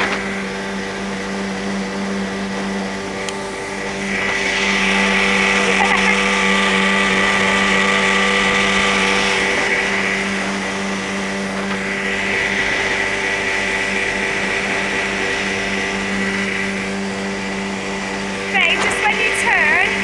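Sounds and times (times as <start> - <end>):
outboard motor drone: 0.0 - 20.0.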